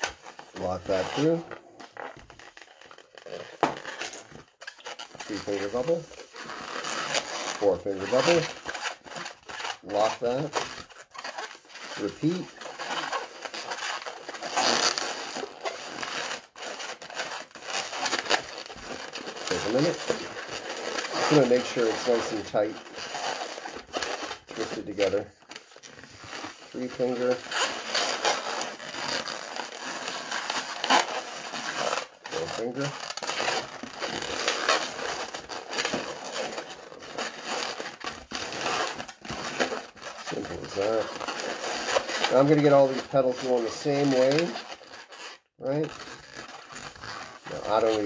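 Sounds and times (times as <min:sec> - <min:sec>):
balloon rubbed and twisted: 0:00.0 - 0:48.0.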